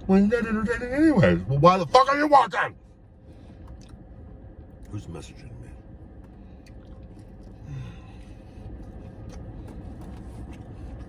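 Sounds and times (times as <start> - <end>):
low rumble inside car cabin: 0.0 - 11.0.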